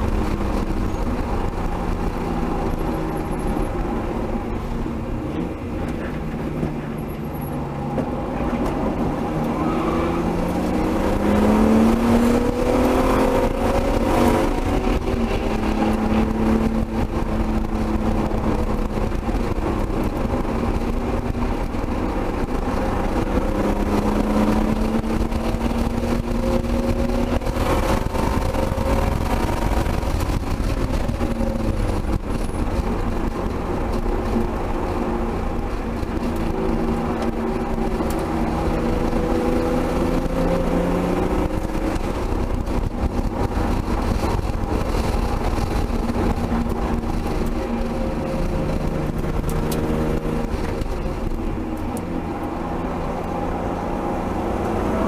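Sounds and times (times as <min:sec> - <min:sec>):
car engine under load: 0:00.0 - 0:55.0
road and wind noise: 0:00.0 - 0:55.0.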